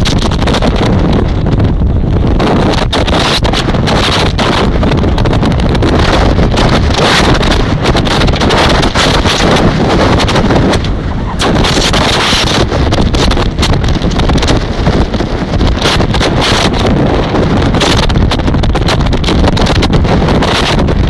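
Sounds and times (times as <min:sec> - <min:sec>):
boat rushing over water: 0:00.0 - 0:21.0
wind buffeting microphone: 0:00.0 - 0:21.0.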